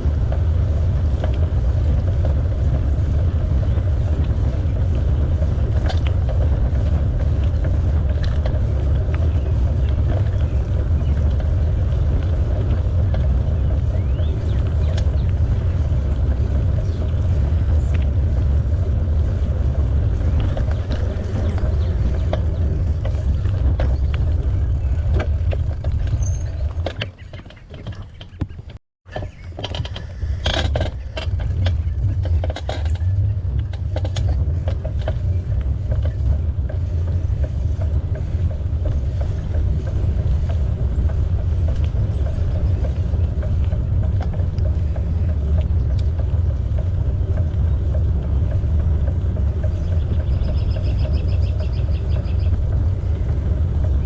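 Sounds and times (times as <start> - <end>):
bicycle tyre noise: 0.0 - 54.0
wind rumble on microphone: 0.0 - 54.0.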